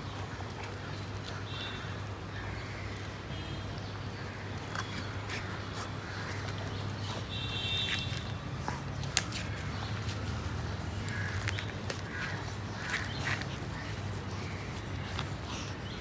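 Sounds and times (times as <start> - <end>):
dogs gnawing and tearing fibres: 0.1 - 1.6, 4.3 - 16.0.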